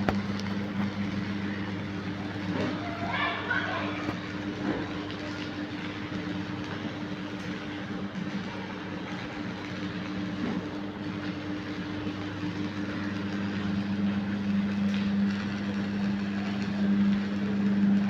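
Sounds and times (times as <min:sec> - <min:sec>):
welding arc buzzing and crackling: 0:00.0 - 0:18.0.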